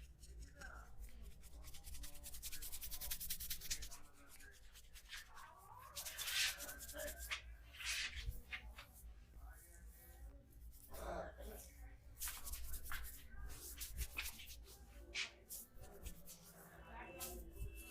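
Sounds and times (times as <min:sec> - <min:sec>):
hands rubbing skin and hair: 0:00.3 - 0:09.0, 0:12.2 - 0:17.9.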